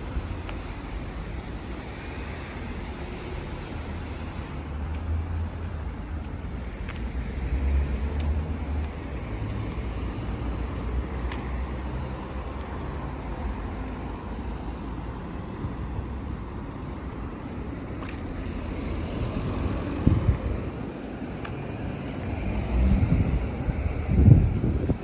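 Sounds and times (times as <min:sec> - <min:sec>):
passing cars rumbling: 0:00.0 - 0:25.0.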